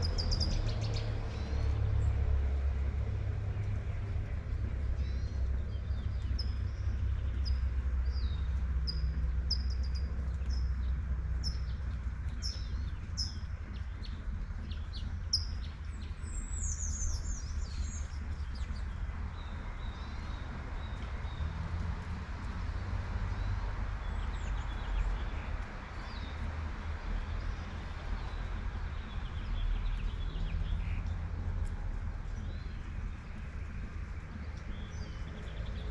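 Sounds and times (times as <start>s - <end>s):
light rain falling: 0.0s - 35.9s
small birds chirping: 4.7s - 21.5s, 23.4s - 35.9s.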